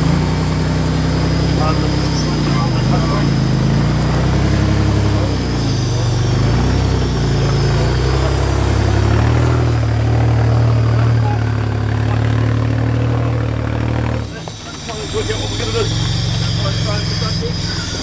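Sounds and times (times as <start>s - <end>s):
buggy engine running loud: 0.0s - 18.0s.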